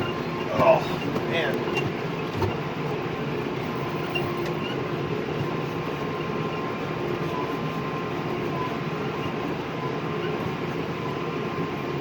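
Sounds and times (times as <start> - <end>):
farm vehicle engine drone: 0.0 - 12.0.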